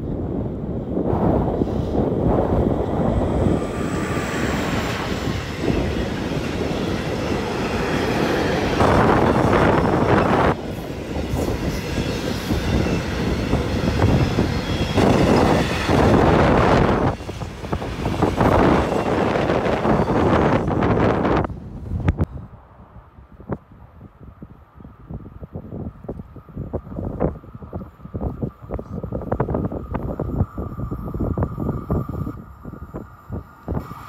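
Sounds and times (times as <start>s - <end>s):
freight train wheels rumbling on rails: 0.0s - 22.2s, 25.6s - 34.0s.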